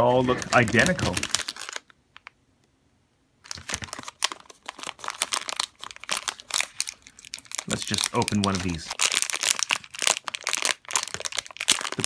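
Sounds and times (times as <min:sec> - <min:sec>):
plastic bags crinkling: 0:00.1 - 0:02.3, 0:03.4 - 0:12.0.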